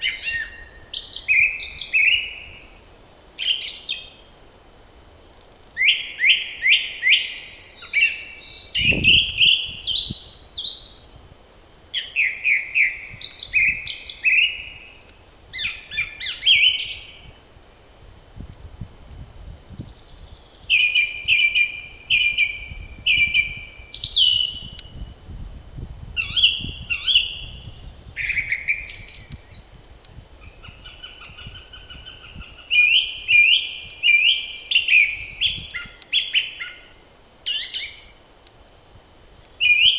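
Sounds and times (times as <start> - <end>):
low wind rumble: 0.0 - 39.6
songbirds singing: 0.0 - 39.9.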